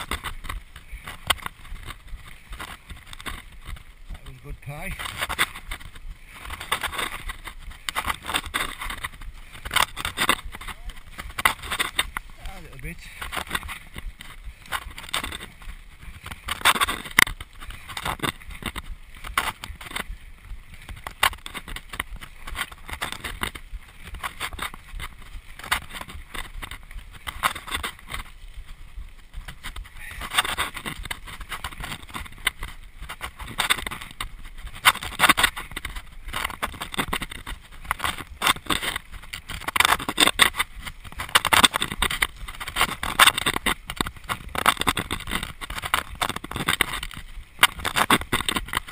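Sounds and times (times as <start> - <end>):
bike rattling and knocking: 0.0 - 48.9
bike tyres rolling on dirt: 0.0 - 48.9
steady rushing noise: 0.0 - 48.9.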